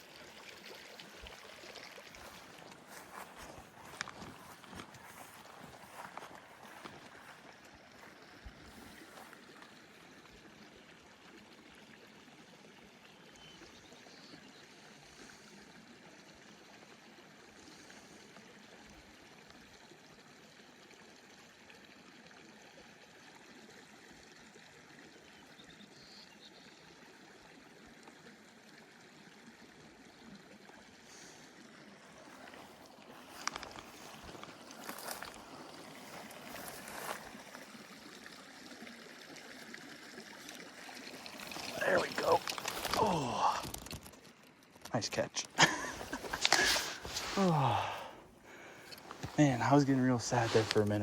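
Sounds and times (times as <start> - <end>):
creek trickling: 0.0 - 51.0.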